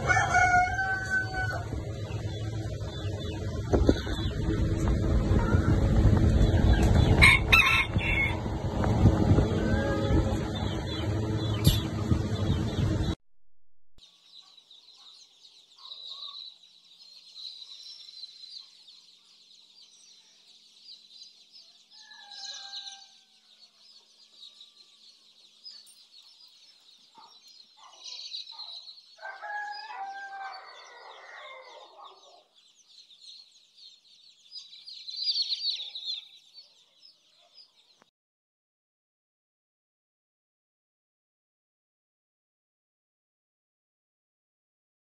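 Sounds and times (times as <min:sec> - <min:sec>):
chicks peeping: 0:00.0 - 0:13.2, 0:14.0 - 0:38.0.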